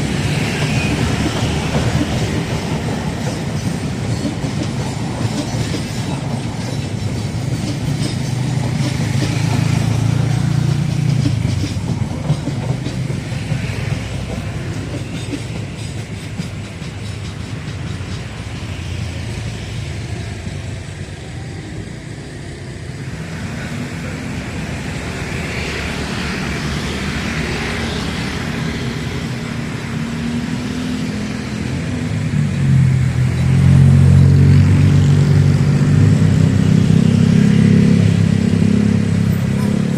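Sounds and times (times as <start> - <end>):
train wheels clacking on rails: 0.0 - 21.7, 23.0 - 39.9
road vehicle engine: 0.0 - 39.9.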